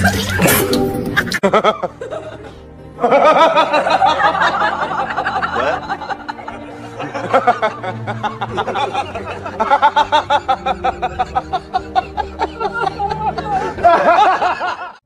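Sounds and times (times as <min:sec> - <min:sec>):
background music: 0:00.0 - 0:15.0
person laughing: 0:00.0 - 0:15.0.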